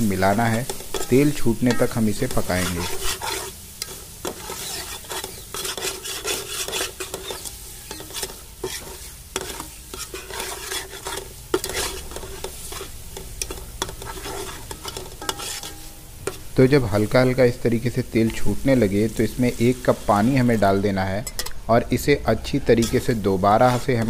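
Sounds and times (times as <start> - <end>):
paste sizzling in oil: 0.0 - 24.0.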